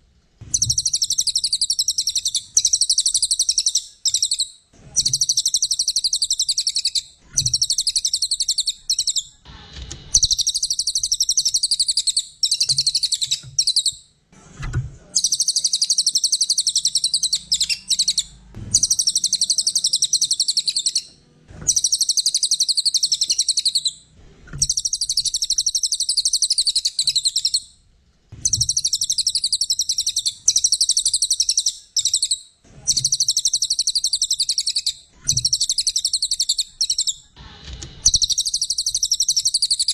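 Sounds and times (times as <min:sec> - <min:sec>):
songbird trilling: 0:00.5 - 0:09.3, 0:10.2 - 0:14.0, 0:15.2 - 0:21.1, 0:21.7 - 0:24.0, 0:24.6 - 0:27.7, 0:28.4 - 0:37.2.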